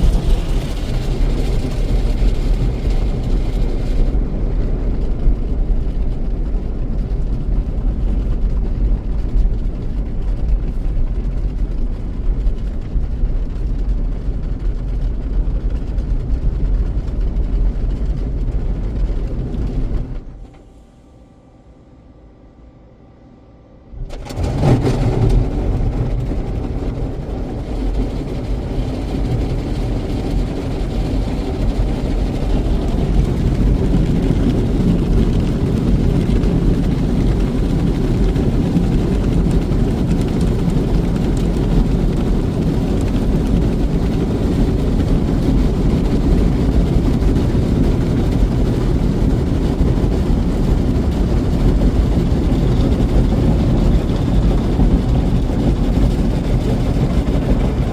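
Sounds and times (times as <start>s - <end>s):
car wash machinery rumbling: 0.0s - 57.9s.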